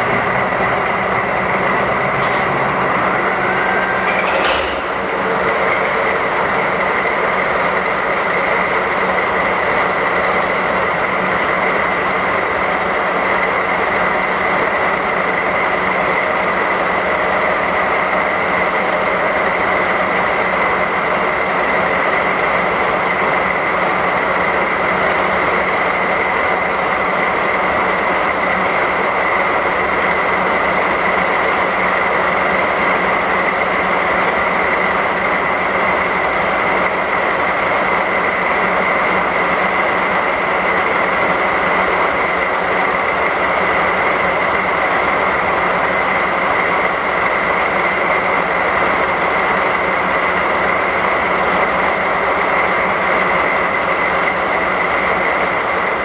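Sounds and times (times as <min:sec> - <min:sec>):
constant high whine: 0:00.0 - 0:56.0
diesel locomotive engines idling: 0:00.0 - 0:56.0.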